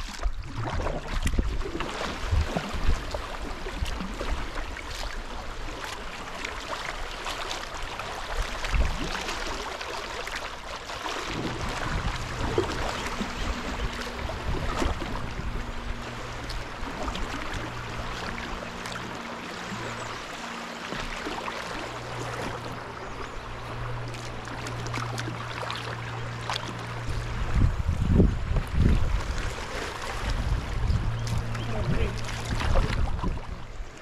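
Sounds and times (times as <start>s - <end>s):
river water splashing: 0.0s - 34.0s.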